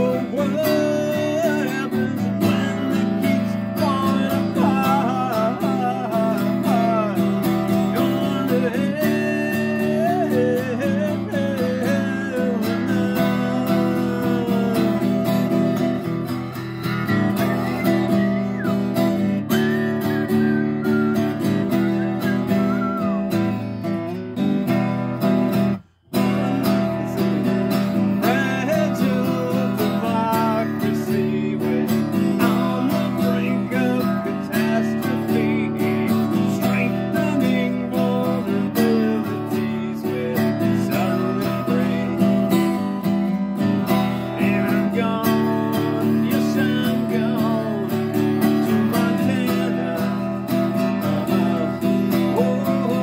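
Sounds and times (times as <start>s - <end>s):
acoustic guitar strumming: 0.0s - 53.0s
wordless vocal melody: 0.0s - 53.0s.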